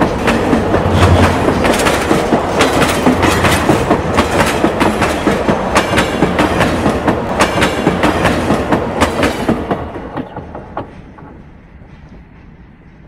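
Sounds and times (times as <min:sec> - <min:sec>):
wheels clacking over rail joints: 0:00.0 - 0:12.6.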